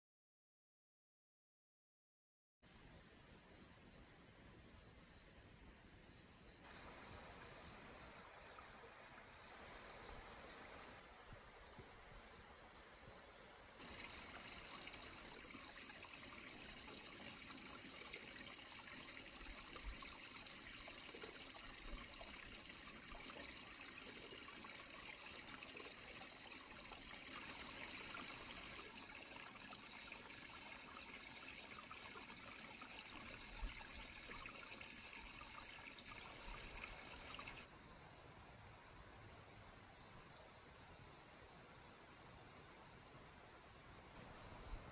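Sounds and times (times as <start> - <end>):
faint trickling stream: 2.7 - 44.9
crickets chirring: 3.0 - 44.9.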